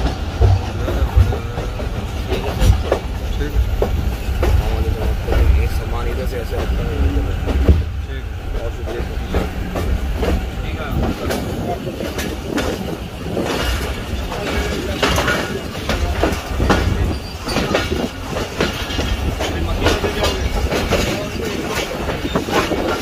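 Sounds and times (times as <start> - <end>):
train rumble: 0.0 - 23.0
wheels clattering over rail joints: 0.0 - 23.0.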